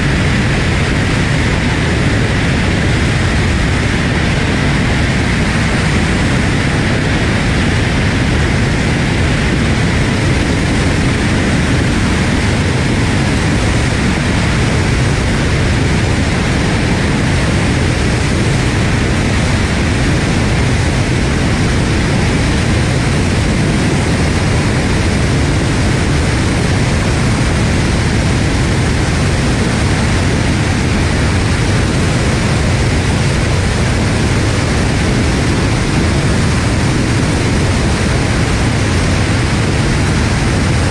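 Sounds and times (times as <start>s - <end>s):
jet engines and airflow rush: 0.0s - 40.9s.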